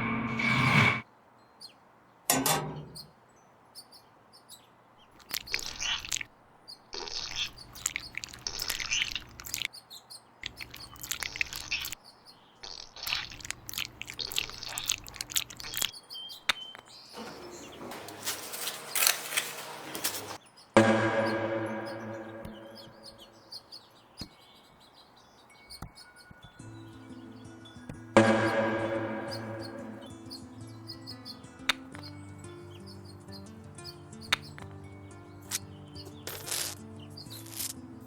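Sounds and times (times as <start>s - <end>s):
birds chirping: 2.7s - 38.0s.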